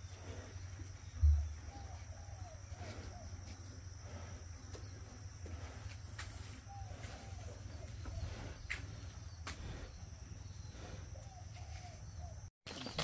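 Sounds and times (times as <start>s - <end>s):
soft bird calls: 0.0s - 13.0s.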